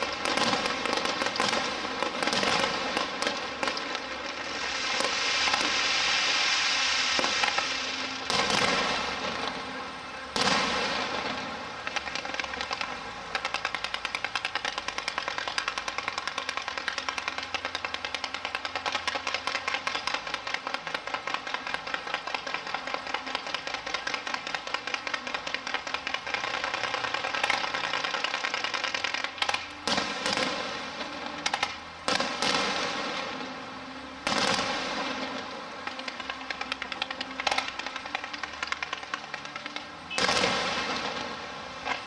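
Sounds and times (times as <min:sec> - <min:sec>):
fireworks crackling: 0:00.0 - 0:42.0
loud fireworks bangs: 0:00.0 - 0:42.0.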